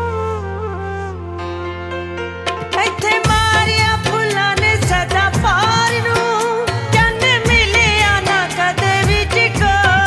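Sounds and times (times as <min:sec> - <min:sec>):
music with beat and melody: 0:00.0 - 0:10.0.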